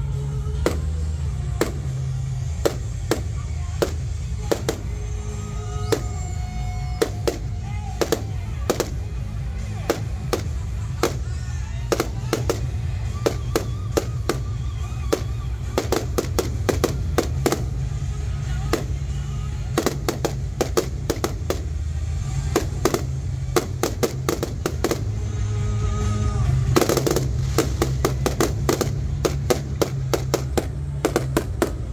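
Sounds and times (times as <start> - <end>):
music: 0.0 - 31.9
fireworks bangs: 0.5 - 31.9.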